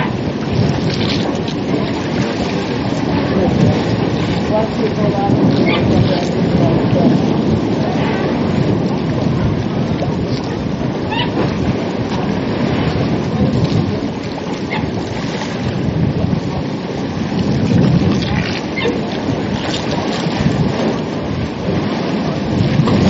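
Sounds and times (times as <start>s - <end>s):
ocean surf washing: 0.0s - 23.0s
wind blowing across microphone: 0.0s - 23.0s.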